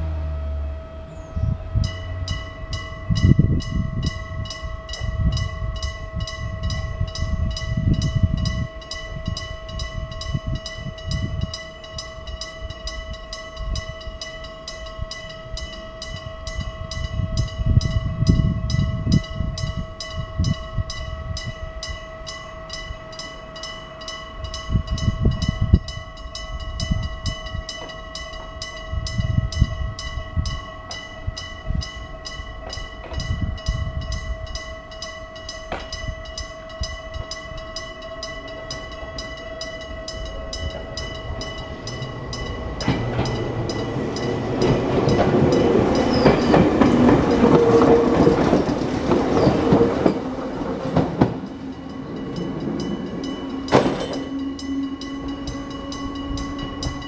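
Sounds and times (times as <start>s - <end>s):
level crossing warning bell: 0.0s - 57.0s
low train hum: 0.0s - 57.0s.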